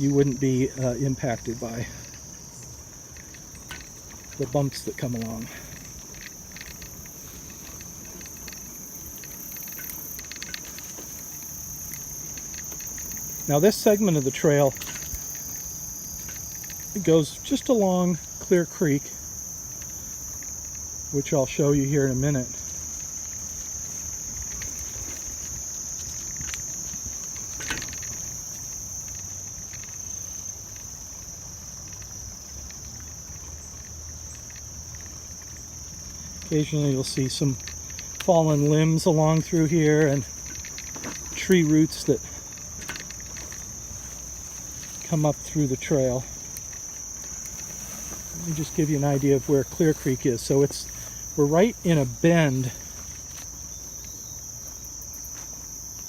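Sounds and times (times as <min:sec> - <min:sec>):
crickets trilling: 0:00.0 - 0:56.0
insects droning: 0:00.0 - 0:56.0
faint clicks: 0:01.4 - 0:54.8.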